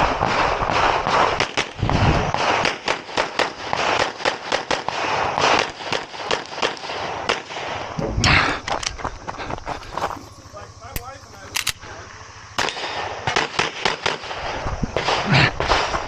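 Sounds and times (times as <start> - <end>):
rapid pistol shots: 0.0 - 8.0, 11.0 - 16.0.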